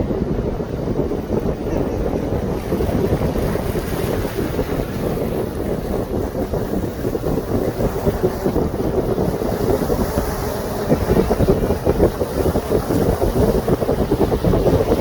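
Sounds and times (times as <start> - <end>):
water washing beneath boat: 0.0 - 15.0
wind buffeting microphone: 0.0 - 15.0.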